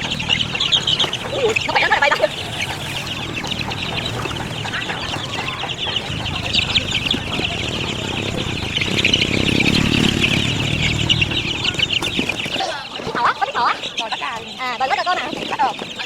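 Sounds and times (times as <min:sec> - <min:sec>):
chickens clucking and peeping: 0:00.0 - 0:16.0.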